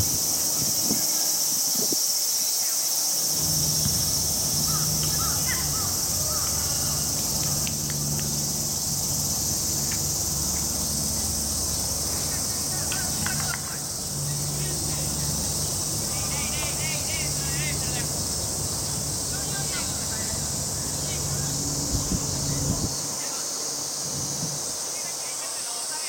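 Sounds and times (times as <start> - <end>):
cicadas droning: 0.0 - 26.0.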